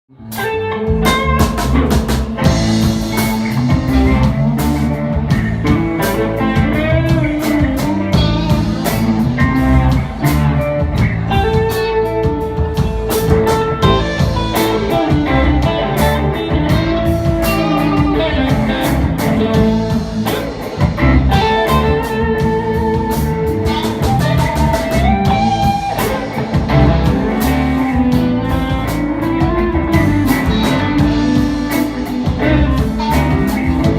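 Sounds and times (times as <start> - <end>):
guitar bending notes: 0.1 - 33.9
live blues band: 0.1 - 33.9
drum kit beat: 0.2 - 33.9.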